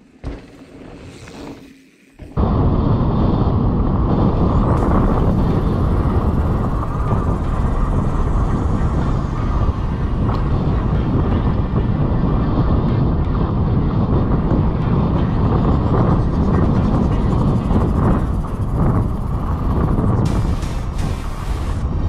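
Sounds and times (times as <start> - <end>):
bike tyres rumbling over dirt: 0.0 - 22.0
wind rushing over microphone: 2.2 - 22.0.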